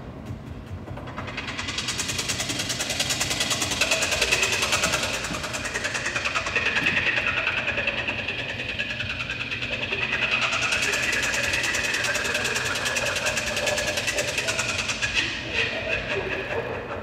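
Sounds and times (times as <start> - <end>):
rapid motor-like synth pulsing: 0.7 - 17.0.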